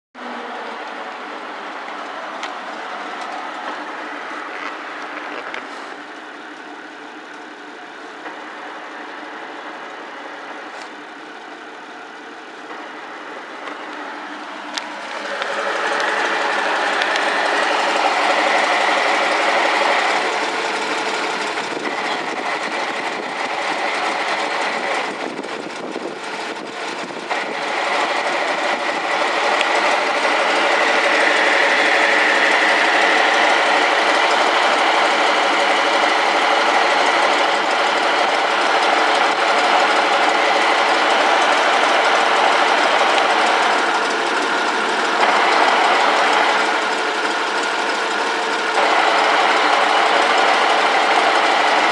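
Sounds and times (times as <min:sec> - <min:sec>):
car engine idling: 0:00.2 - 0:51.9
rattling whir from transmission: 0:00.8 - 0:51.9.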